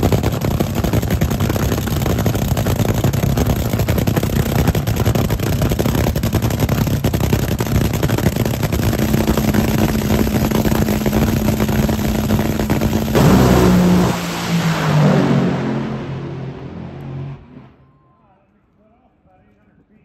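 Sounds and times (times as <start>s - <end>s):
dragster engine running: 0.0s - 17.8s.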